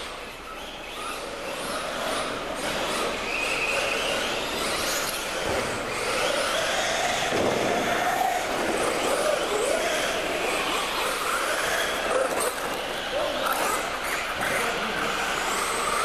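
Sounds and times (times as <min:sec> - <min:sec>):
racing engines revving: 0:00.0 - 0:16.0.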